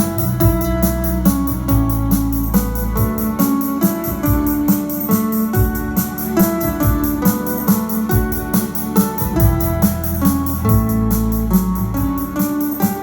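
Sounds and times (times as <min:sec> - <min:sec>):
keyboard instrumental music with beat: 0:00.0 - 0:13.0.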